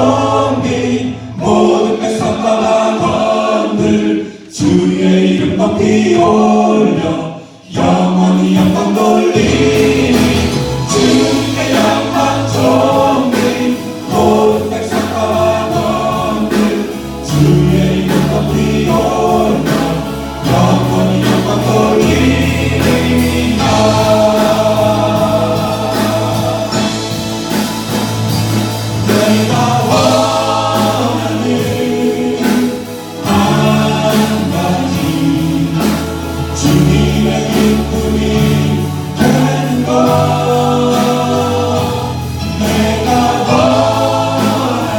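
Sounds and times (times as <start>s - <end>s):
choir singing worship song: 0.0s - 44.9s
instrumental backing with bass: 0.0s - 44.9s.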